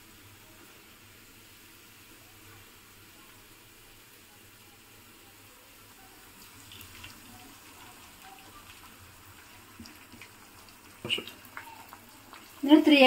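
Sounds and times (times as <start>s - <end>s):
eggs sizzling in a pan: 0.0s - 13.0s.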